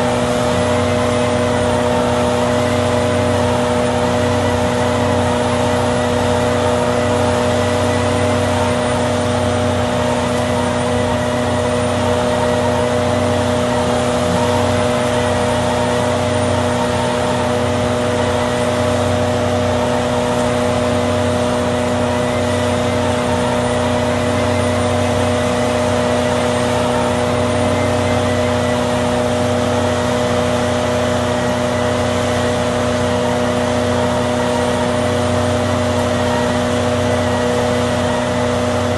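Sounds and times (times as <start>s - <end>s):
shredder droning: 0.0s - 38.9s.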